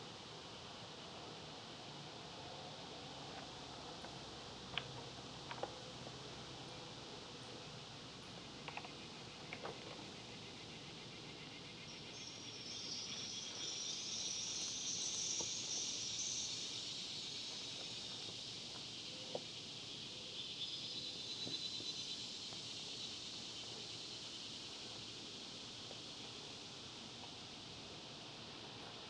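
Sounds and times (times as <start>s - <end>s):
insects buzzing: 2.8s - 29.0s.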